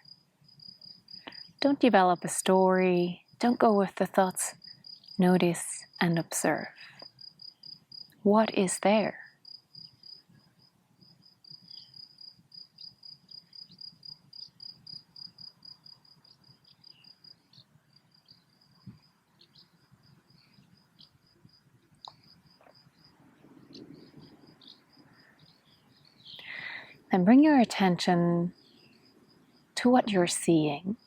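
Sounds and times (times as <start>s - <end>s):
cricket chirping: 0.0s - 8.2s, 9.2s - 31.0s.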